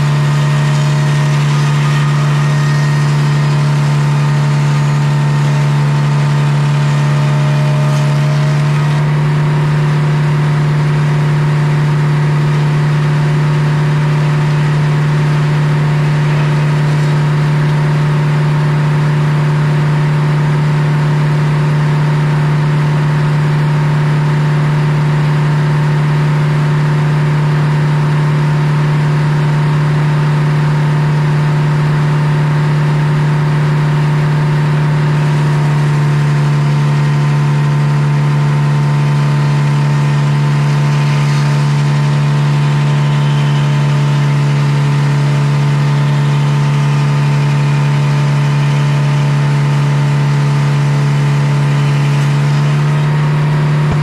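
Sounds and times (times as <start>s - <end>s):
circular saw cutting log: 0.0s - 54.0s.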